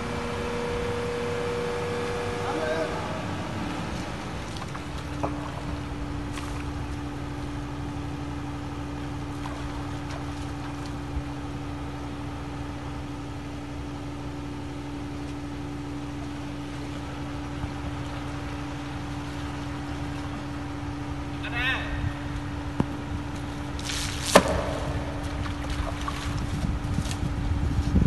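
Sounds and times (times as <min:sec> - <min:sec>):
engine humming steadily: 0:00.0 - 0:28.0.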